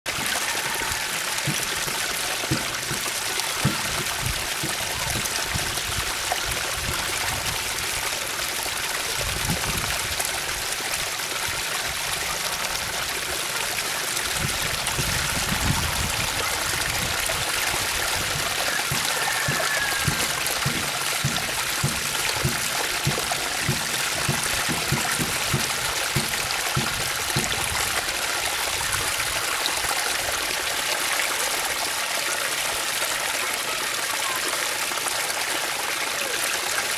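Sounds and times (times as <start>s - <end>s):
water pouring and splashing: 0.1s - 36.9s.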